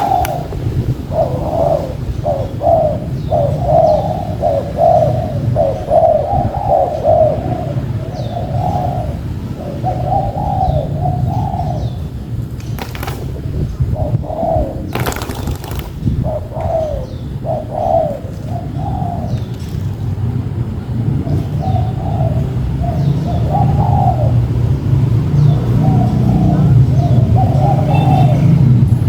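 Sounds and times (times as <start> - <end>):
small birds chirping: 0.0 - 28.8
doves cooing: 0.0 - 28.9.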